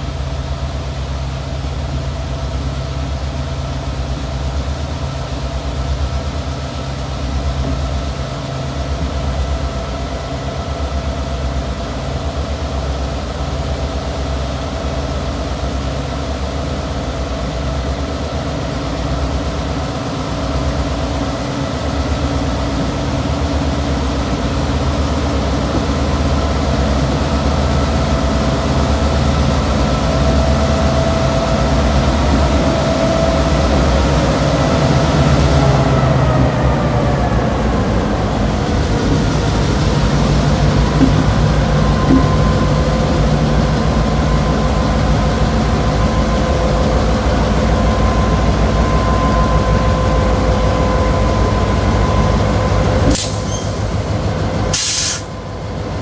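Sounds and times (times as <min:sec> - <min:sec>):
diesel locomotive engines droning: 0:00.0 - 0:56.0
locomotive whine: 0:00.0 - 0:56.0.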